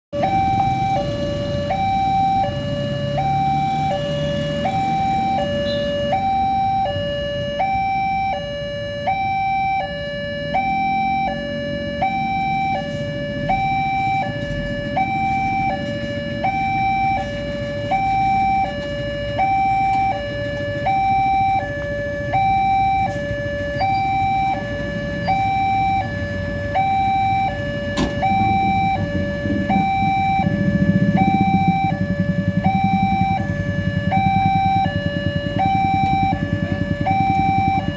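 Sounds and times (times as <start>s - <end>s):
two-tone crossing alarm: 0.1s - 37.9s
low traffic rumble: 0.2s - 37.9s.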